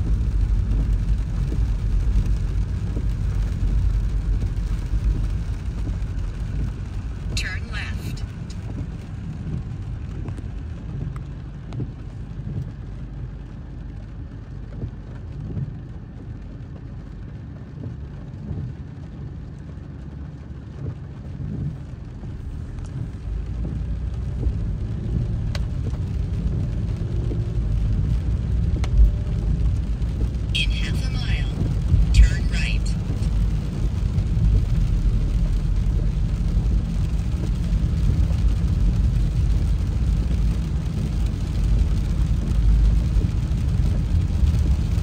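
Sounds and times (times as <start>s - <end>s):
car engine and road rumble: 0.0s - 45.0s
rain on windshield: 0.0s - 45.0s.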